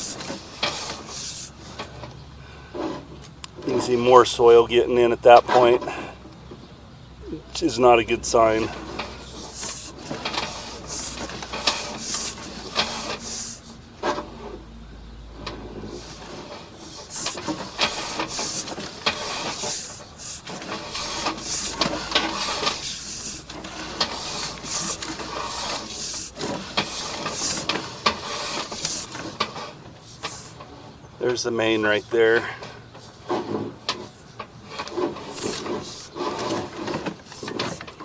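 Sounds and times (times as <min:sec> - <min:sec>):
cable clicking and rubbing in pipe: 0:00.0 - 0:02.2, 0:07.2 - 0:14.6, 0:15.3 - 0:38.0.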